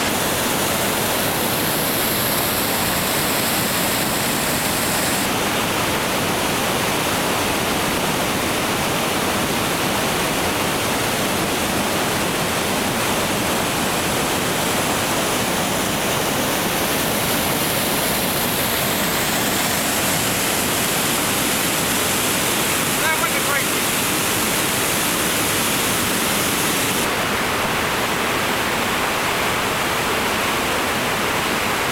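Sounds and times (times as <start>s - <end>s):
rushing whitewater roar: 0.0s - 31.9s.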